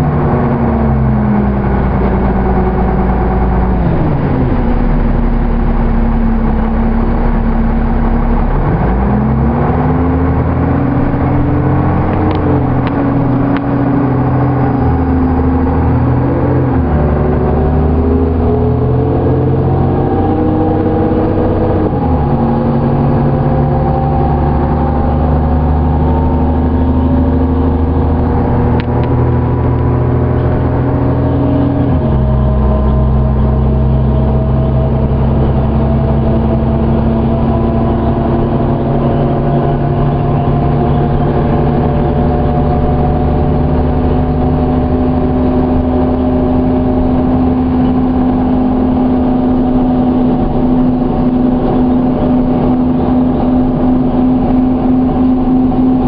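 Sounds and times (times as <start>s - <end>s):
bus diesel engine accelerating: 0.0s - 56.0s
high whine: 0.0s - 56.0s.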